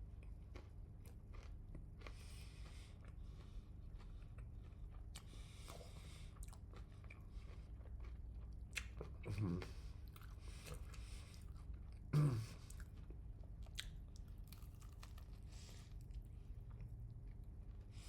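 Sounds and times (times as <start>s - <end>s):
chewing crispy fried chicken: 0.0s - 18.0s.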